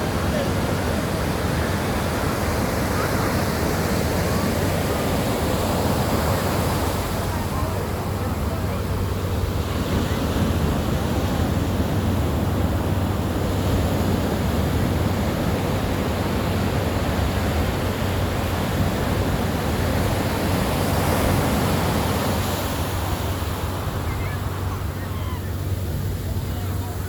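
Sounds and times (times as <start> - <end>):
waves washing on shore: 0.0 - 27.0.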